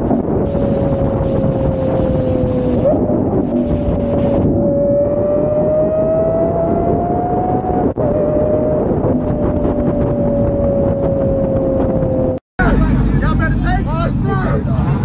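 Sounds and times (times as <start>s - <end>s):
car engine at high revs: 0.0s - 15.0s
wind noise: 0.0s - 15.0s.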